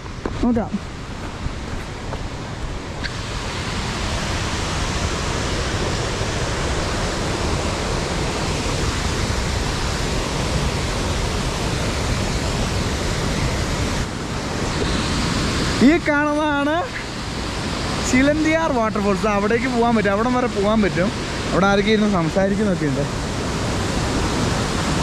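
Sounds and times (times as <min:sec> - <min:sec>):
wind buffeting microphone: 0:00.0 - 0:22.3
waterfall rushing: 0:00.0 - 0:25.0.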